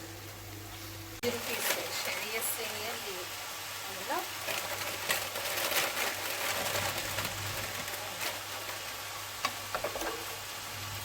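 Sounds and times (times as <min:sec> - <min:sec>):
boiling water bubbling: 0:00.0 - 0:11.0.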